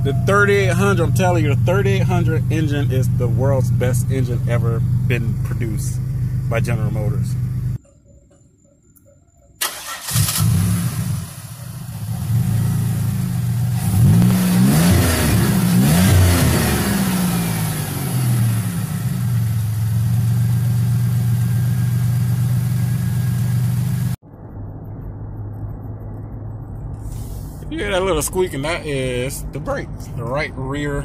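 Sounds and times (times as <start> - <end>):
car engine revving and idling: 0.0 - 7.8, 10.0 - 31.0.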